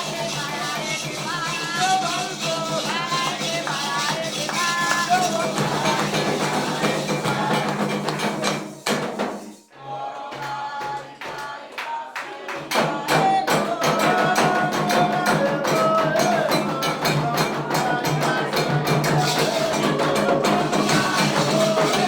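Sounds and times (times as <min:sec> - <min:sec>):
drums and hand percussion: 0:00.0 - 0:22.0
voices singing: 0:00.0 - 0:22.0.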